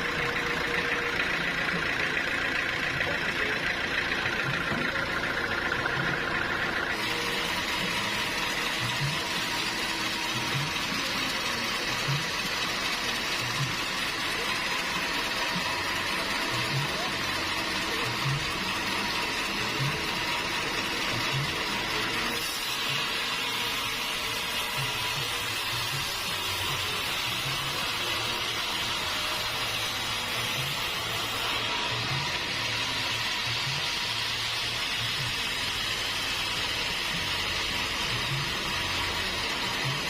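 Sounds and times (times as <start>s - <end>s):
saw cutting log: 0.0s - 40.0s.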